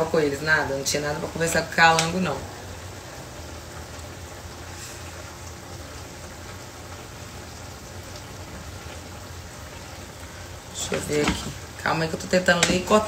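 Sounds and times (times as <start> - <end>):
food sizzling on stove: 0.0 - 13.0.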